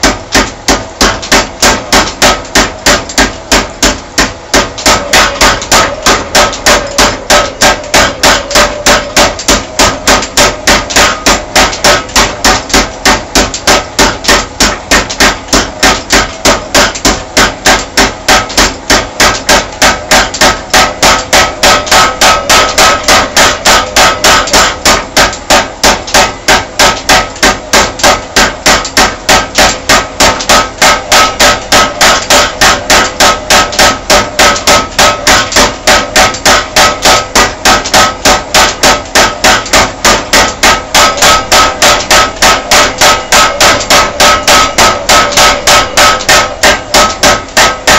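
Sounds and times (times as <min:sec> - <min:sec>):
power hammer pounding steel: 0:00.0 - 0:47.9.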